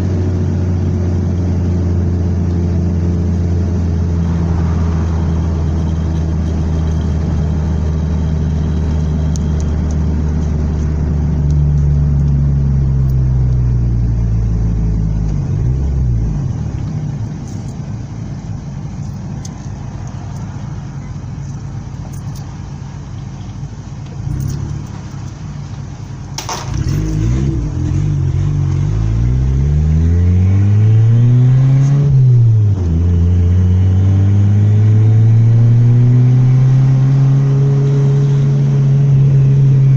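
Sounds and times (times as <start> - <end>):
car engine revving: 0.0 - 20.8, 24.1 - 39.9.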